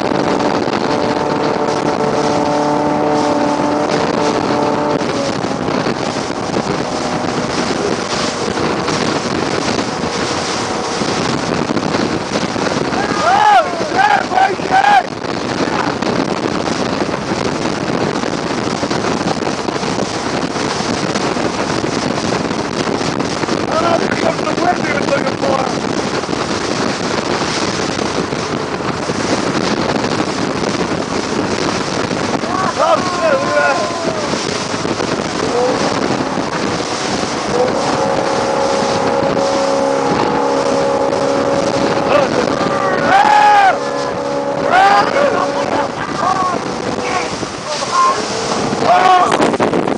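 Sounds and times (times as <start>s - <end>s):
motorboat running: 0.0s - 49.9s
water churning in wake: 0.0s - 49.9s
wind buffeting microphone: 0.0s - 49.9s.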